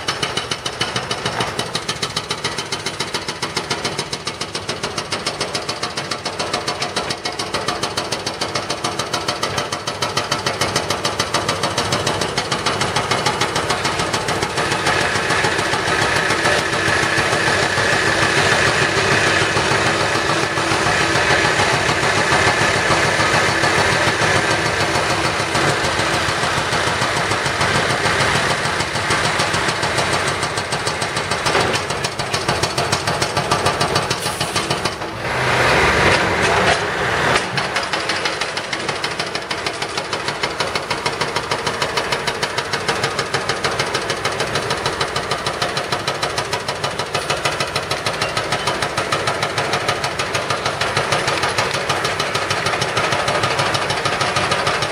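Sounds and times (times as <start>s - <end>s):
concrete mixer truck: 0.0s - 54.9s
diesel construction machinery: 0.0s - 54.9s.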